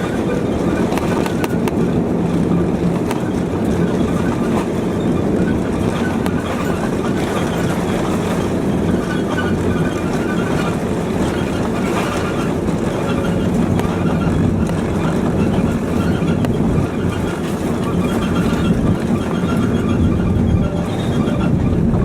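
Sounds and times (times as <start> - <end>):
jet engines droning: 0.0 - 22.0
wheels rumbling on runway: 0.0 - 22.0.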